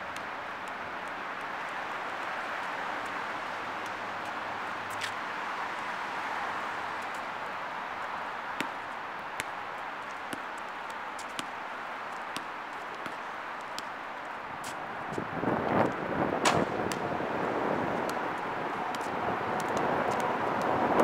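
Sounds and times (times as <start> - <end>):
distant traffic: 0.0 - 21.0.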